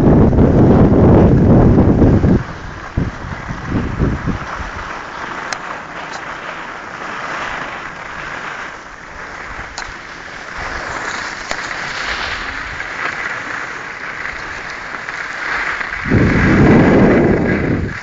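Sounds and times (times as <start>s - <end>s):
skis scraping over snow: 0.0s - 18.0s.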